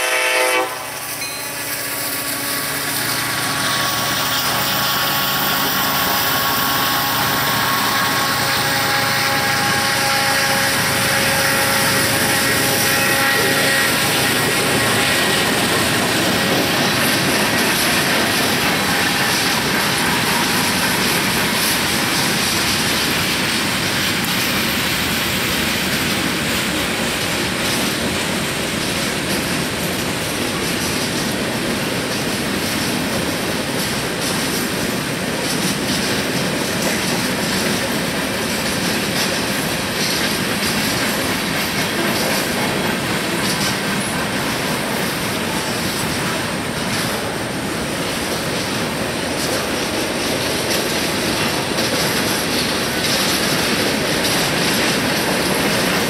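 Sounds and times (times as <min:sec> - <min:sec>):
steel train wheels on rails: 0:00.0 - 0:56.0
wheels clicking over rail joints: 0:01.2 - 0:56.0.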